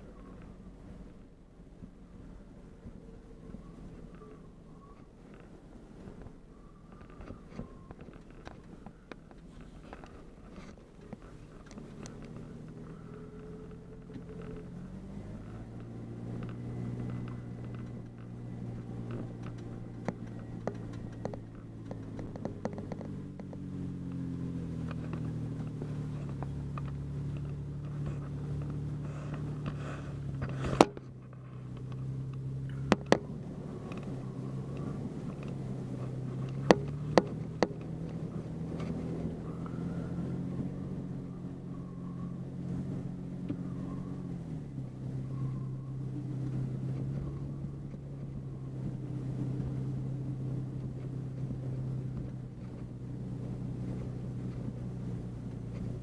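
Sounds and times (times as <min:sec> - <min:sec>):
vehicle engine on dirt trail: 0:00.0 - 0:56.0.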